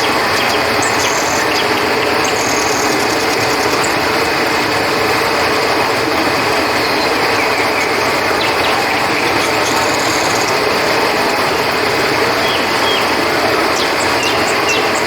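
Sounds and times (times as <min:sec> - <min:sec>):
crickets trilling: 0:00.0 - 0:15.0
flowing river water: 0:00.0 - 0:15.0.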